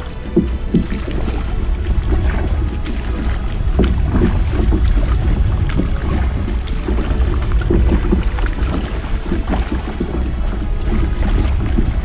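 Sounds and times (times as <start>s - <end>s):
paddle splashing in water: 0.0s - 12.0s
wind buffeting microphone: 0.0s - 12.0s.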